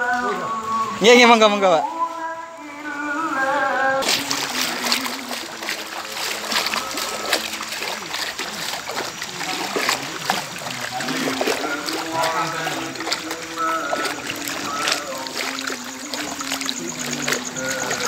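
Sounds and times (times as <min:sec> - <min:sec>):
people wading through water: 0:00.0 - 0:18.0.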